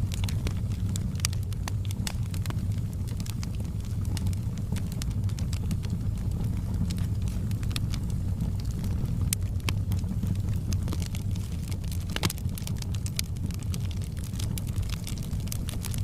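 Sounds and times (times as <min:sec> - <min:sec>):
bonfire rumbling: 0:00.0 - 0:16.0
fire crackles and pops: 0:00.0 - 0:16.0.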